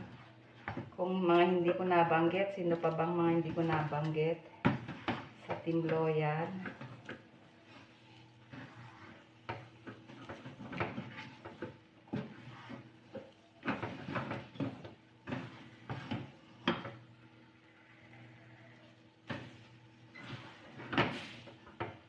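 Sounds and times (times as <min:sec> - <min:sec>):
spatula scraping a wok: 0:00.0 - 0:22.0.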